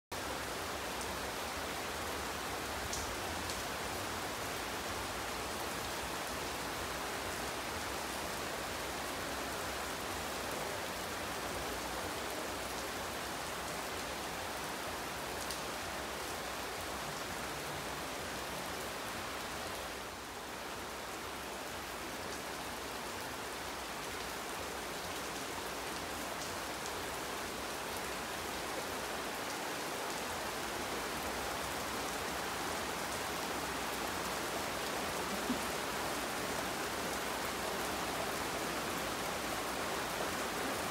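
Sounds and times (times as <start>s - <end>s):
rain falling on water and paving: 0.1s - 40.9s.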